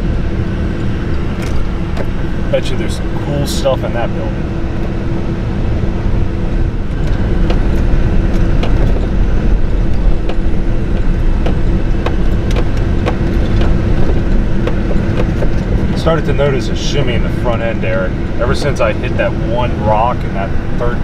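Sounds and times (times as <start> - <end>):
road and engine noise in truck cab: 0.0 - 21.0.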